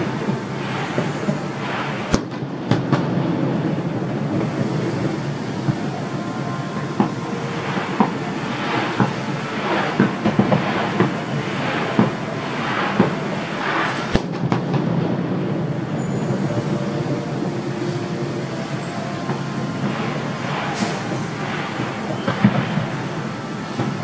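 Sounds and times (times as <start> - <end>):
distant fireworks rumble: 0.0 - 24.0
fireworks bangs: 0.0 - 24.0
hissing crackle: 0.0 - 24.0.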